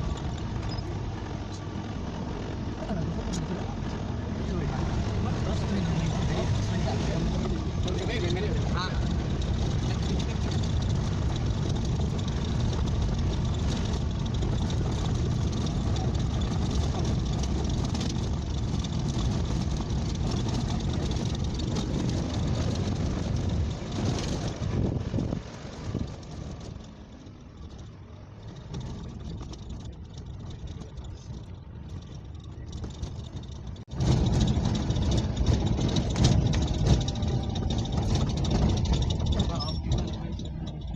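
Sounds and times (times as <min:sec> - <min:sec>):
jeep engine and road rumble: 0:00.0 - 0:40.9.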